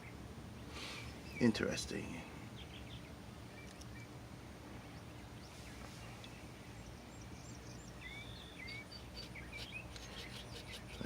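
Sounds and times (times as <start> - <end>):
distant birds chirping: 0.0 - 11.0
outdoor background hiss: 0.0 - 11.0.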